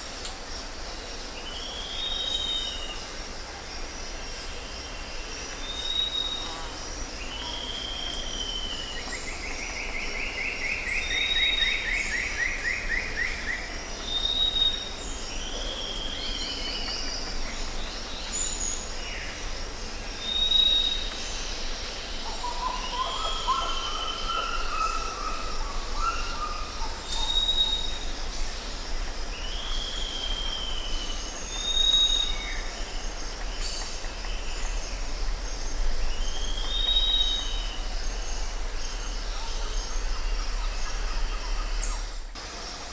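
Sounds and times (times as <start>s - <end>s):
high insect drone: 0.0s - 42.9s.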